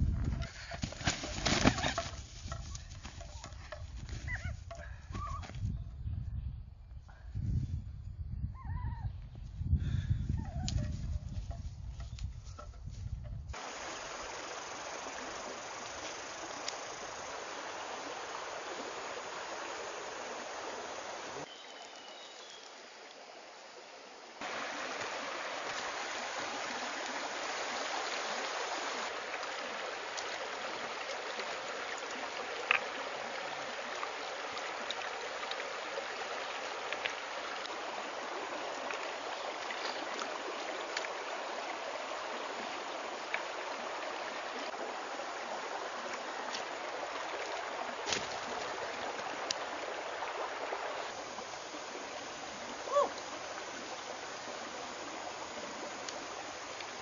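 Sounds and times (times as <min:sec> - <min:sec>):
stream running over rocks: 0:00.0 - 0:04.0, 0:13.5 - 0:57.0.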